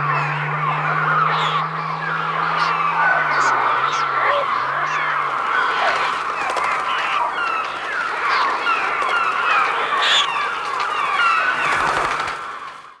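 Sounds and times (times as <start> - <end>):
chorus of birds squawking: 0.0 - 13.0.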